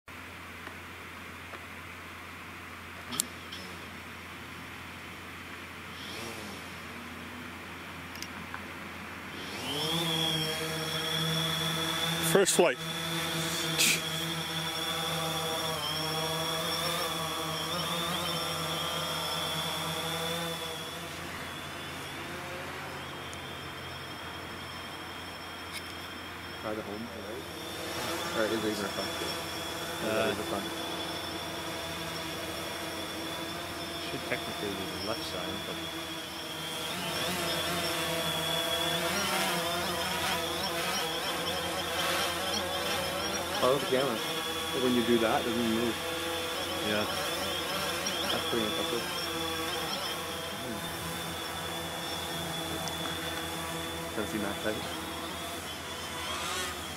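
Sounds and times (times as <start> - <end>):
drone propellers humming: 1.4 - 56.9.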